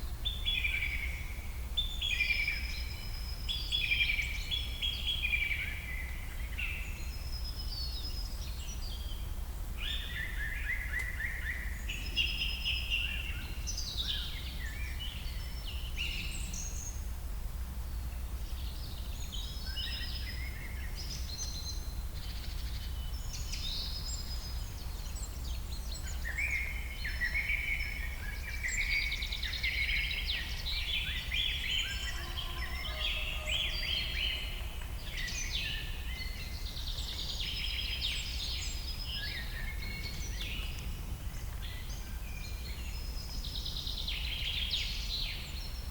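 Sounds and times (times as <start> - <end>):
songbirds chirping and warbling: 0.0 - 45.9.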